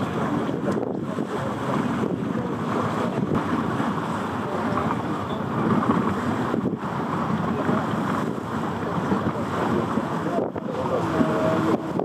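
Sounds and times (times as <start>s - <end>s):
rush of water: 0.0s - 12.0s
wind buffeting microphone: 0.0s - 12.0s.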